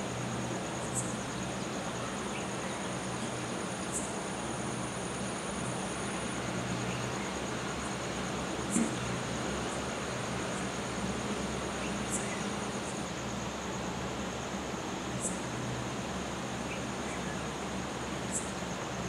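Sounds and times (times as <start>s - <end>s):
constant hiss and low hum: 0.0s - 19.0s
crickets trilling: 0.0s - 19.0s.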